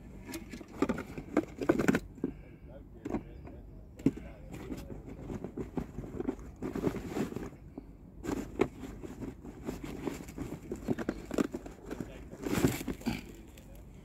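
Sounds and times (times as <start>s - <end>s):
knocks scrapes and rustles: 0.1s - 2.5s, 4.0s - 13.9s.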